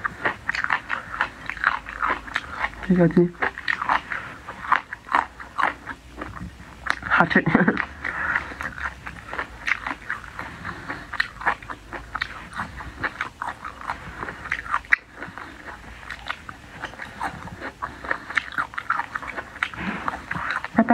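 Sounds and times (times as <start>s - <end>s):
wet chewing with crunchy bites: 0.0s - 20.9s.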